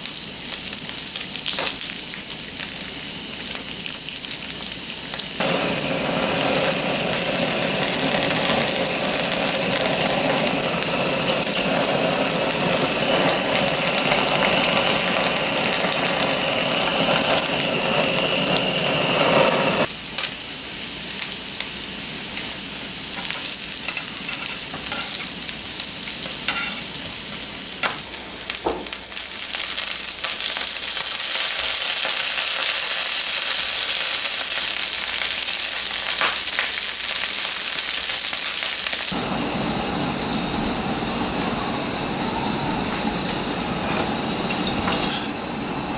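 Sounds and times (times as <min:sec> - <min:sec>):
food sizzling in frying pan: 0:00.0 - 0:45.9.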